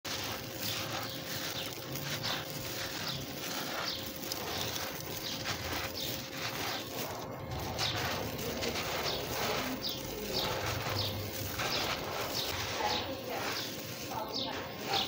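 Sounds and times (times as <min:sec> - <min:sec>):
grains trickling onto a pile: 0:00.0 - 0:15.0
hands crumbling damp grit: 0:00.0 - 0:15.0.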